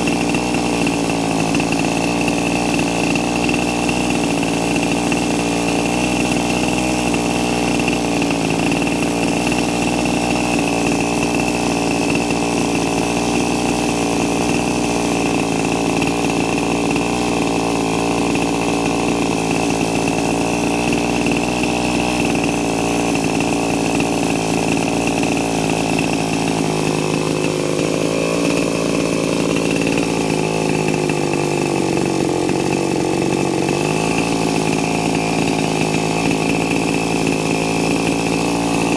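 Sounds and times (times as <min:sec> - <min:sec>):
model helicopter engine running: 0:00.0 - 0:38.9.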